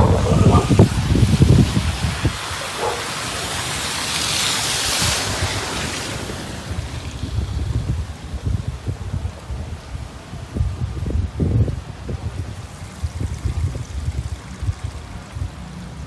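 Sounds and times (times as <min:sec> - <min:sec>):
wind buffeting microphone: 0:00.0 - 0:03.7, 0:04.4 - 0:16.0
strong wind gusting: 0:00.0 - 0:16.0.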